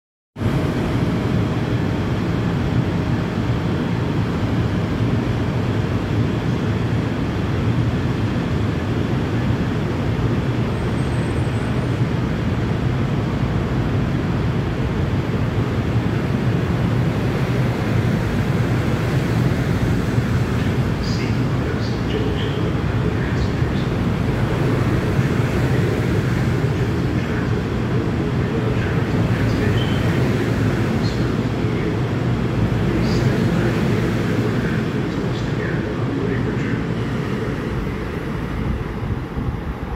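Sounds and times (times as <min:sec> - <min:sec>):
passenger train rumbling past: 0:00.4 - 0:39.9.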